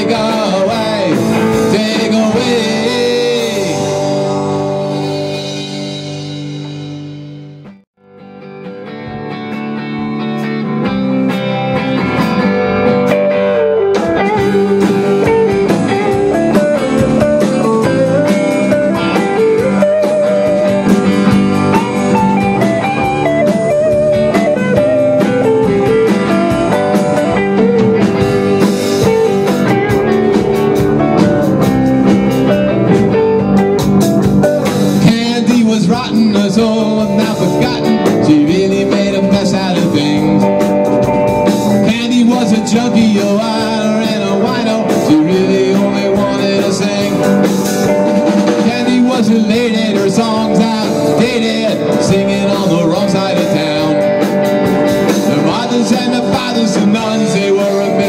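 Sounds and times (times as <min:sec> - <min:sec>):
bass: 0:00.0 - 0:58.0
drum kit: 0:00.0 - 0:58.0
electric guitars: 0:00.0 - 0:58.0.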